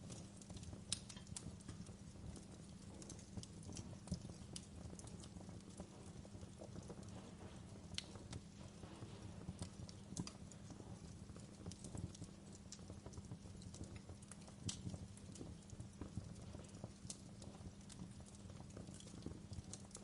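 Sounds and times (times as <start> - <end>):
fire crackling and popping: 0.0 - 20.0
low rumble of flame: 0.0 - 20.0.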